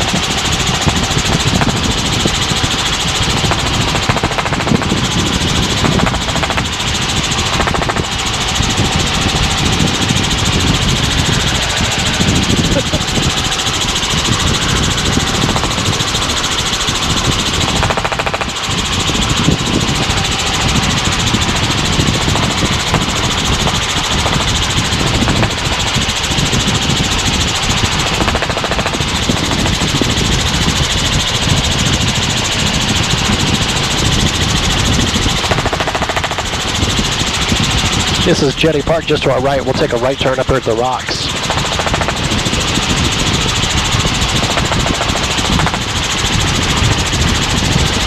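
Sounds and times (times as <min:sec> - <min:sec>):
helicopter drone inside cabin: 0:00.0 - 0:48.0.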